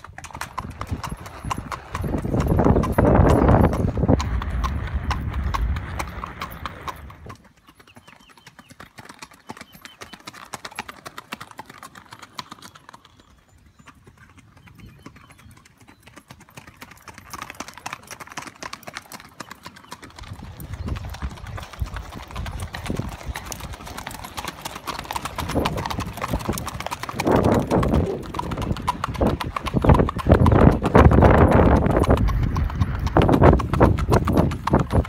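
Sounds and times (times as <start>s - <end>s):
horse hoofbeats on pavement: 0.0s - 35.0s.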